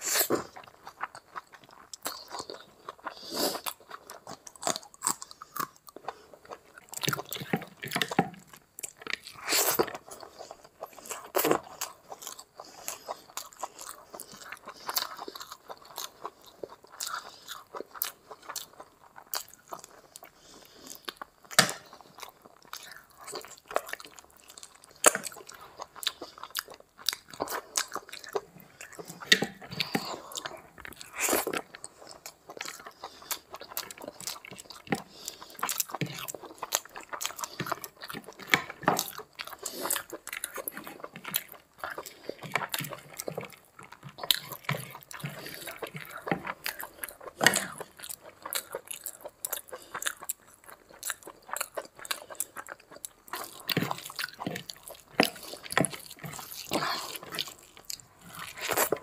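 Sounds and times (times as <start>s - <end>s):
chewing with wet clicks: 0.4s - 59.0s.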